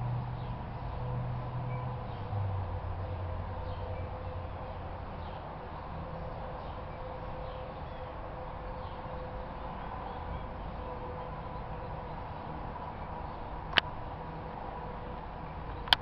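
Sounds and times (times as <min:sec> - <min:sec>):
steady hum and low rumble: 0:00.0 - 0:16.0.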